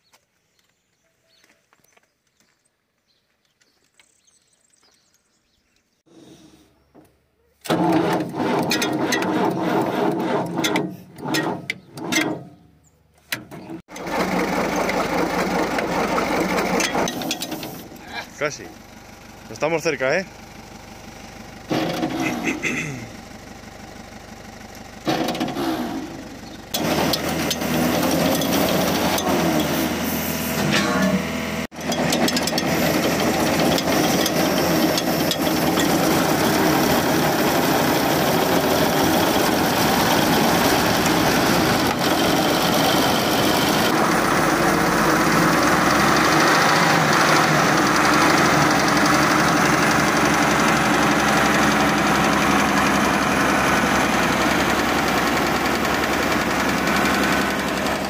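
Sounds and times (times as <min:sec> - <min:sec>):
diesel engine cranking and running: 0:07.6 - 0:58.0.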